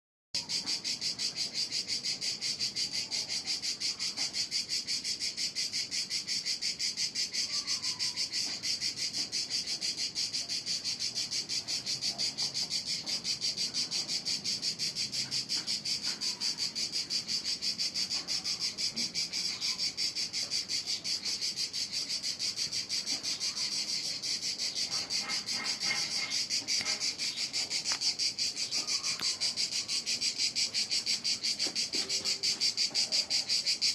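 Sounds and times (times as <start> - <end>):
insects buzzing: 0.4 - 33.9.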